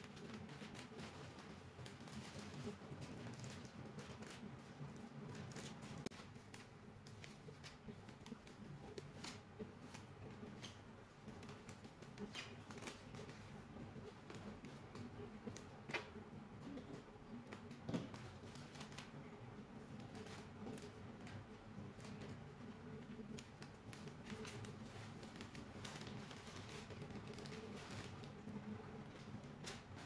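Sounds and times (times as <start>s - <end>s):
wrapping paper rustling and crinkling: 0.0s - 30.0s.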